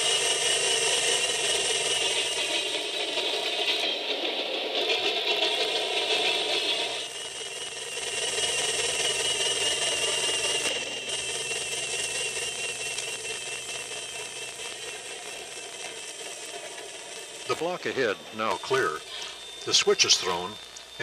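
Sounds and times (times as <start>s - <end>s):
model train wheels rattling: 0.0s - 21.0s
thin wavering whine: 0.0s - 21.0s.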